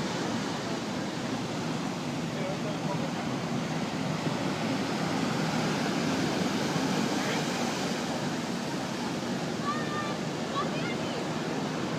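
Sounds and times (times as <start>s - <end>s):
ocean surf washing in: 0.0s - 11.9s.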